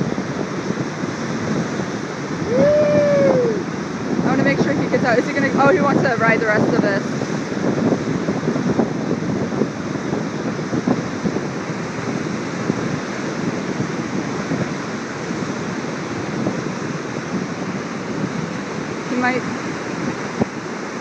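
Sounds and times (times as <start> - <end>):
waterfall and rapids rushing: 0.0 - 21.0.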